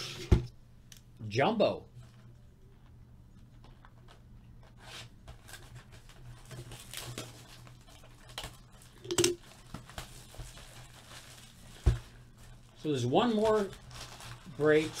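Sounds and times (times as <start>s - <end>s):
plastic wrap rustling and crackling: 2.0s - 15.0s.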